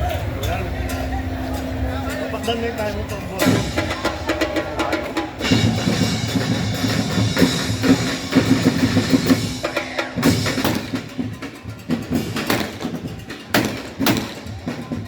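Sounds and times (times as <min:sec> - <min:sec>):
drum-heavy music: 0:00.0 - 0:15.0.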